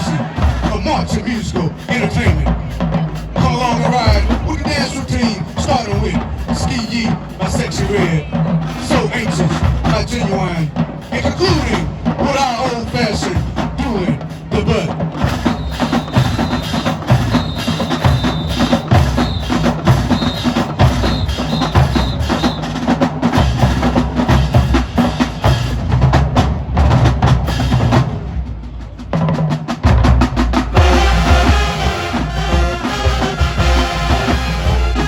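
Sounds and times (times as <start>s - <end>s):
marching band drumming: 0.0s - 35.0s.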